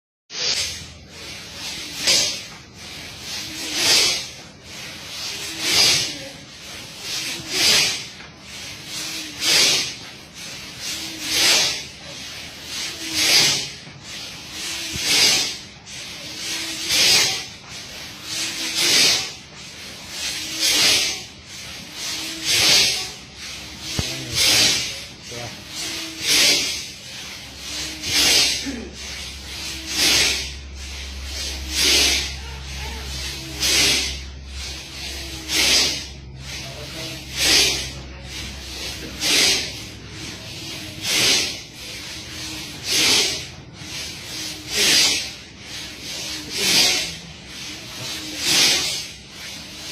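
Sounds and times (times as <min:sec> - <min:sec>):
people blowing breath through noses: 0:00.4 - 0:49.9.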